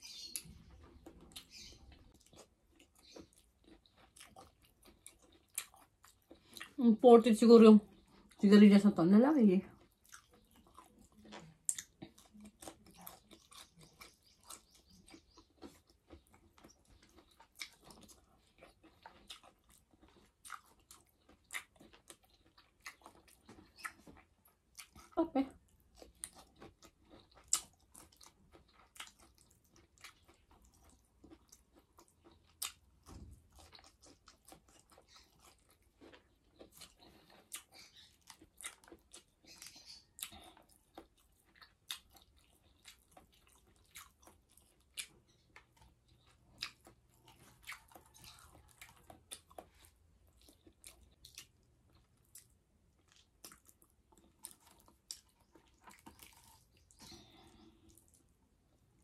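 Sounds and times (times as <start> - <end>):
person chewing food: 0.0 - 6.8, 7.9 - 8.4, 9.7 - 59.0.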